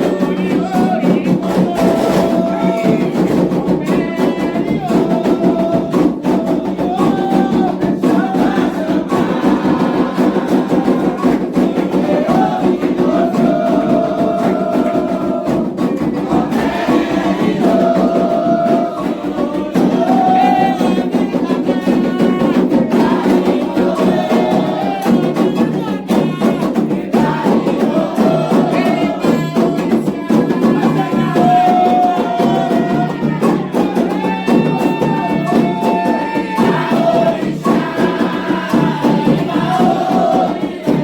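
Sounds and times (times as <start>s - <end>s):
hand drums playing rhythm: 0.0s - 41.0s
voices singing chants: 0.0s - 41.0s.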